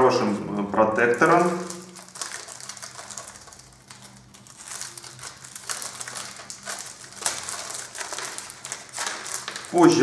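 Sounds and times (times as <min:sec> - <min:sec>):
plastic bag crinkling: 0:00.8 - 0:10.0.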